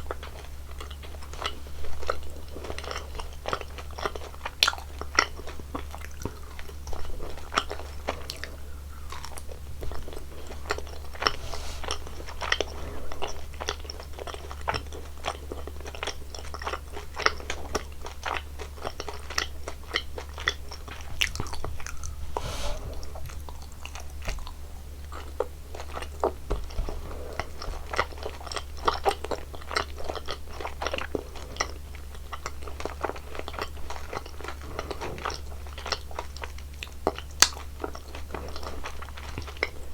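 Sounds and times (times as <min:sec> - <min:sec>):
person crunching and chewing sweets: 0:00.0 - 0:22.3, 0:23.1 - 0:39.9.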